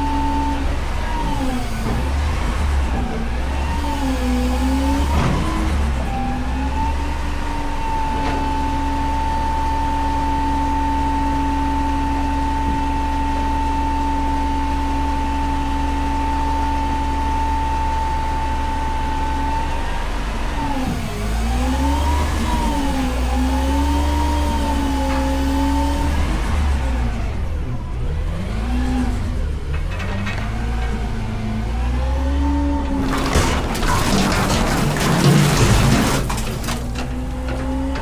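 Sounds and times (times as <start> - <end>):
truck engine droning at high revs: 0.0 - 38.0.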